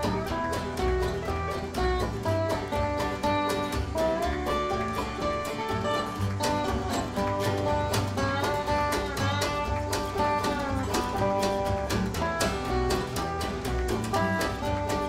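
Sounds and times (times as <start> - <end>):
bluegrass band playing: 0.0 - 15.0
fast banjo picking: 0.0 - 15.0.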